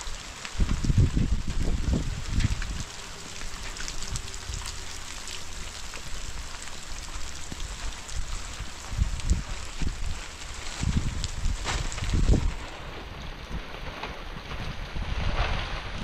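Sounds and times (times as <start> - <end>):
rain falling: 0.0 - 16.0
wind gusts: 0.0 - 16.0.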